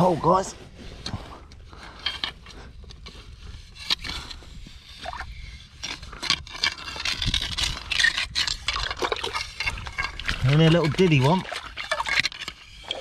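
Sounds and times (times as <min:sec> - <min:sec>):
metal hook scraping sand and stone: 0:01.8 - 0:13.0.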